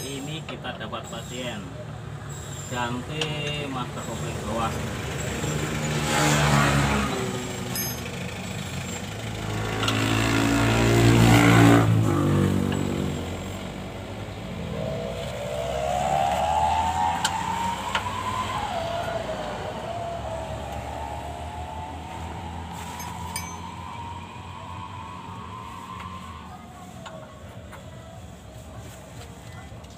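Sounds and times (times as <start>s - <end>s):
motor vehicle engines passing: 0.0s - 29.9s.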